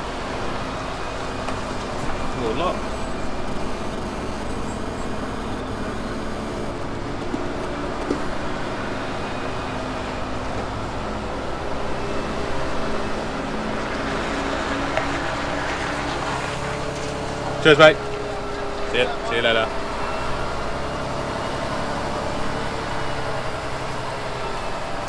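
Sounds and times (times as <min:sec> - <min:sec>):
lorry diesel engine idling: 0:00.0 - 0:25.0.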